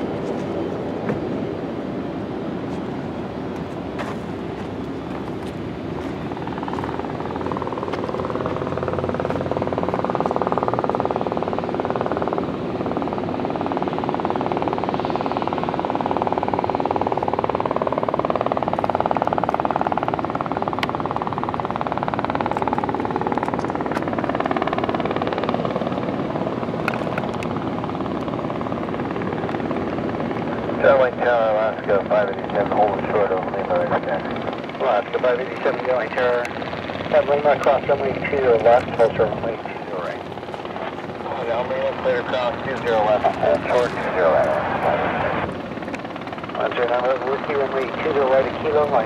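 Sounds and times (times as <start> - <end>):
aircraft engine roar: 0.0 - 49.0.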